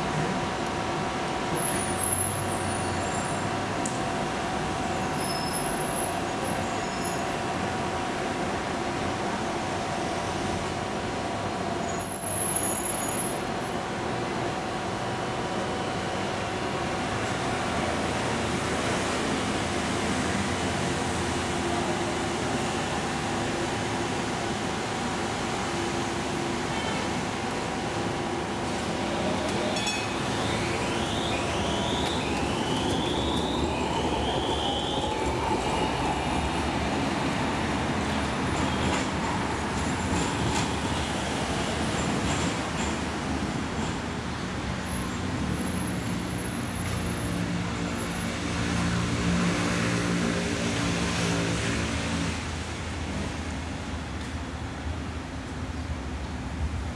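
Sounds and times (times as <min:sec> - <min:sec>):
tram equipment whirring and hissing: 0:00.0 - 0:56.9
wheels rumbling on rails: 0:00.0 - 0:56.9.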